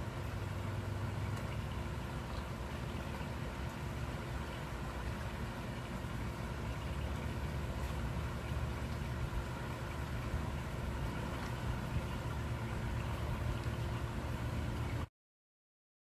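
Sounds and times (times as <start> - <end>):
faint hum tone: 0.0 - 15.1
low mechanical drone: 0.0 - 15.1.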